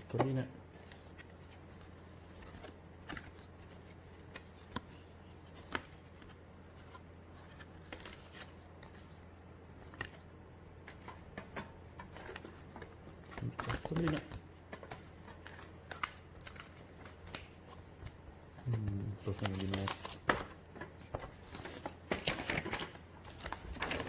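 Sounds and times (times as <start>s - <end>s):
cards clicking and rustling: 0.0s - 24.0s.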